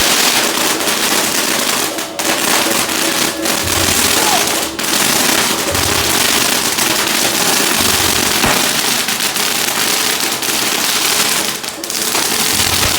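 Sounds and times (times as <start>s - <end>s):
firecrackers crackling: 0.0s - 12.9s.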